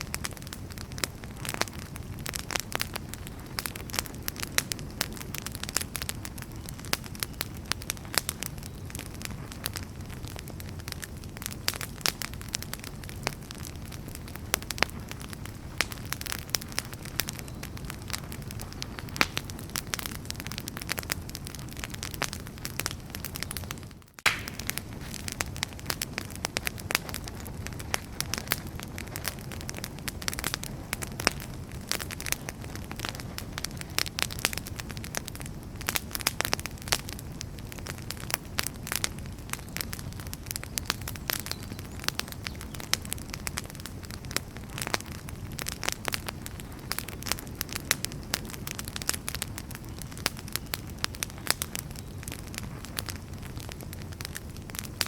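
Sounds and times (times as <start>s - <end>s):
firewood snapping and popping: 0.0s - 55.0s
low rush of flames: 0.0s - 55.0s.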